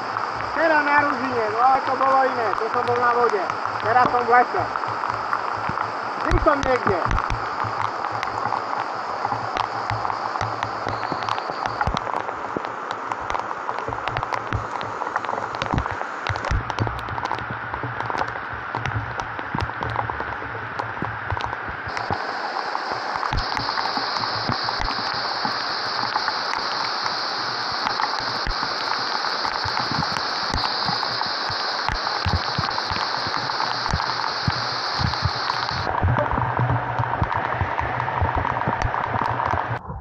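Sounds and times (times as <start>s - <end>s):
steady high hiss: 0.0s - 39.9s
heavy rain in forest: 0.0s - 40.0s
raindrops tapping: 0.0s - 40.0s.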